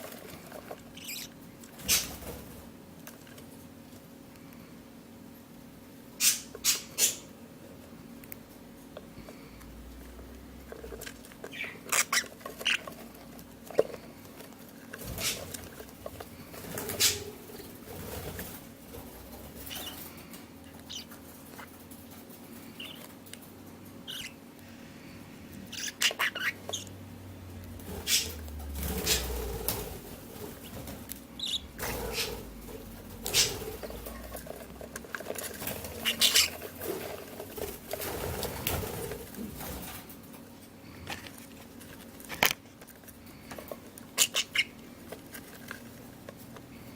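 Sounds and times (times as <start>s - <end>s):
chicks scratching and shuffling: 0.0s - 4.9s, 6.2s - 46.9s
faint steady hum: 0.0s - 46.9s.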